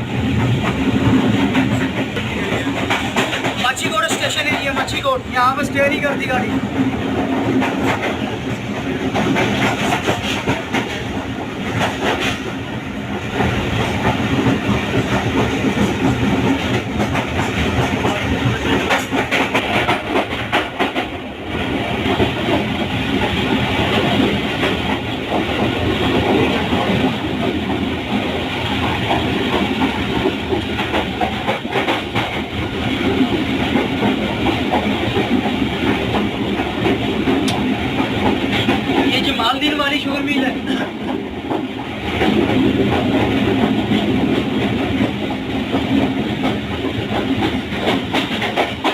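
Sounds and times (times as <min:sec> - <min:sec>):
train rumble: 0:00.0 - 0:48.9.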